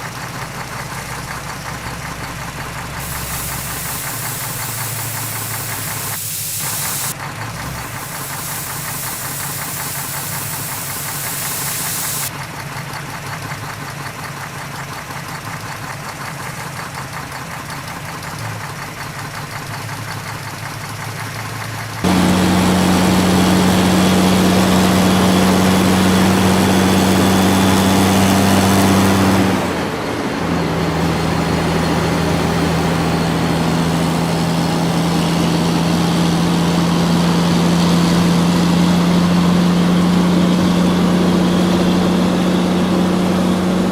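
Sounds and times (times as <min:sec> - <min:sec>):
heavy machinery engines running: 0:00.0 - 0:43.9.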